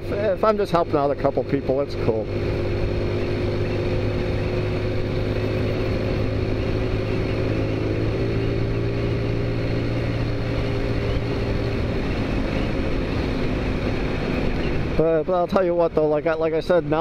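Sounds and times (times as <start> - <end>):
scooter engine running: 0.0 - 15.3.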